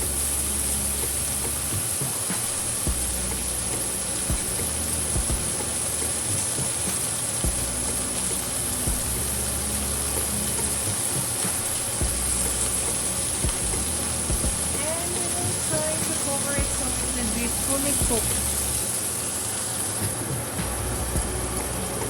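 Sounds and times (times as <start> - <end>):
low hum: 0.0 - 18.8, 20.6 - 22.0
chicken sizzling on a grill pan: 0.0 - 22.0.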